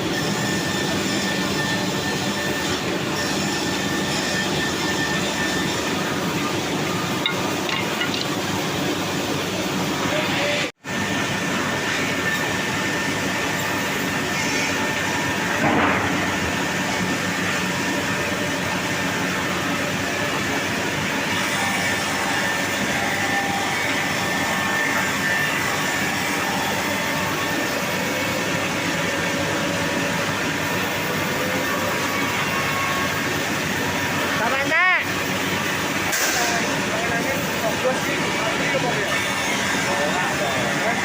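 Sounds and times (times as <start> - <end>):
rip saw machine running: 0.0 - 41.0.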